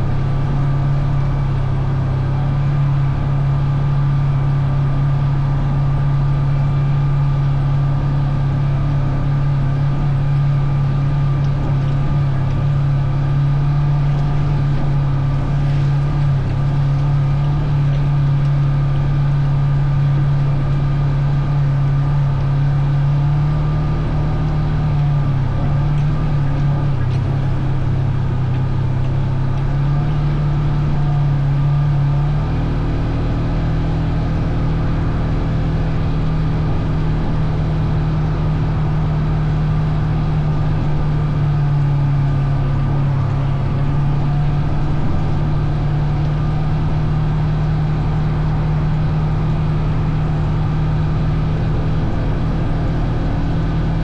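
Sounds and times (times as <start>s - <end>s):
off-road vehicle engine droning: 0.0s - 54.0s.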